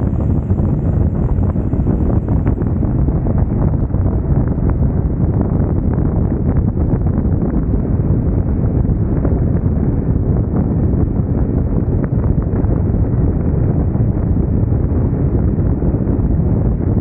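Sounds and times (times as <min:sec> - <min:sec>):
motorcycle engine running steadily: 0:00.0 - 0:17.0
wind noise on microphone: 0:00.0 - 0:17.0.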